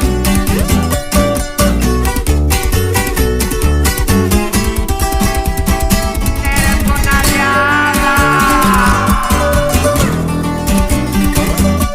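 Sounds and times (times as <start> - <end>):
instrumental pop music: 0.0 - 11.9.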